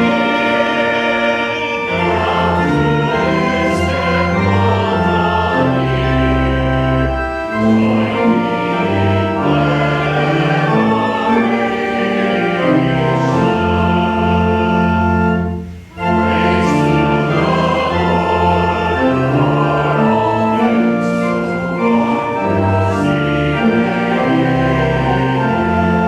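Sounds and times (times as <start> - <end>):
congregation singing a hymn: 0.0 - 26.0
organ chords: 0.0 - 26.0.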